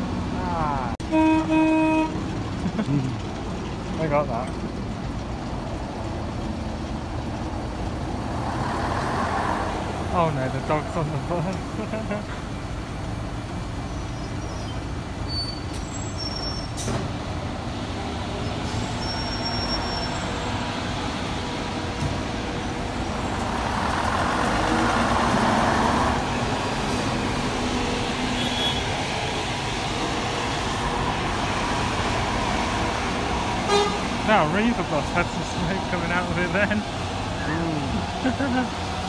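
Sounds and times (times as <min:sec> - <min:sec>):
bus diesel engine: 0:00.0 - 0:39.0.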